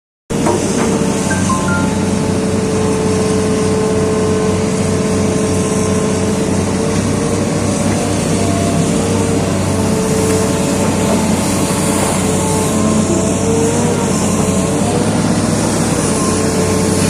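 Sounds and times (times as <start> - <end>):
excavator diesel engine drone: 0.3 - 17.0
high engine whine: 0.4 - 17.0.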